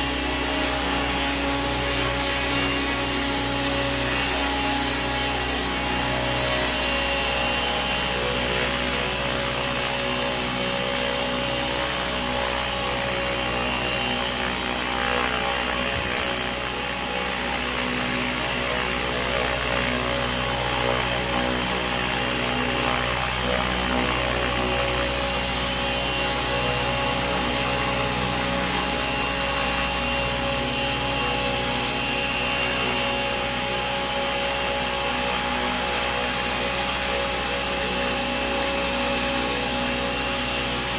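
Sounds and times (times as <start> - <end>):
electric motor whine: 0.0 - 40.9
helicopter rotor noise: 0.0 - 40.9.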